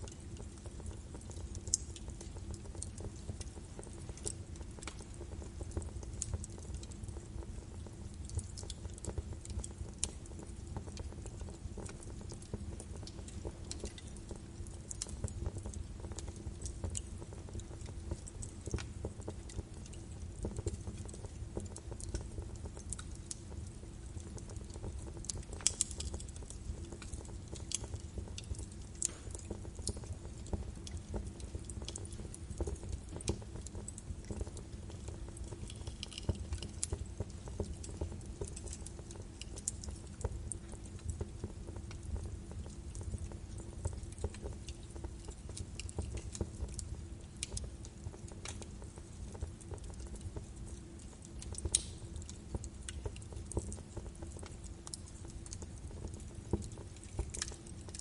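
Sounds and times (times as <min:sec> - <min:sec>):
burning logs crackling and popping: 0:00.0 - 0:58.0
low rumble of flames: 0:00.0 - 0:58.0.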